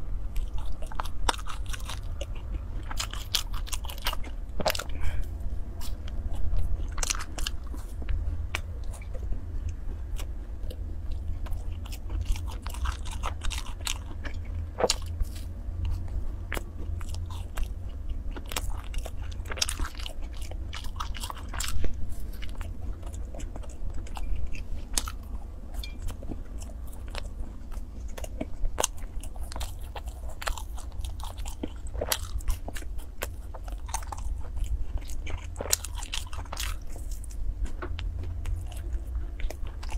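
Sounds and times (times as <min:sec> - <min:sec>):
chewing crumbly pastry: 0:00.0 - 0:39.9
steady low hum: 0:00.0 - 0:39.9.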